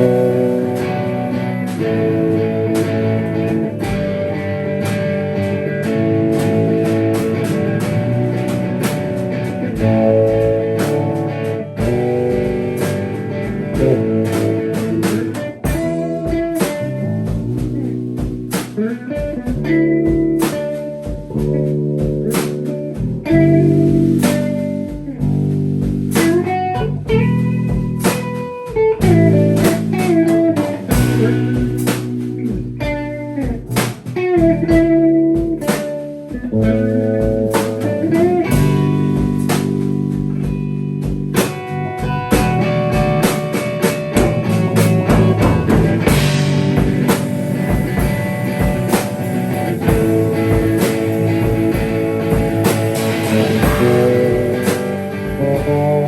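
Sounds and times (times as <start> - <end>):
drum kit with cymbals: 0.0 - 56.0
electric guitar bending notes: 0.0 - 56.0.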